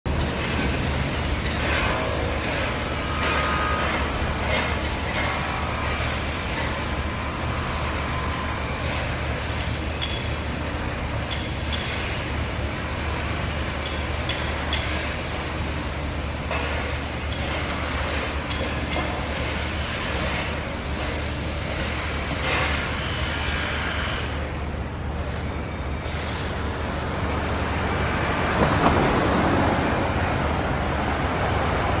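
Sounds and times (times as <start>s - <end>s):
street traffic noise: 0.1s - 32.0s.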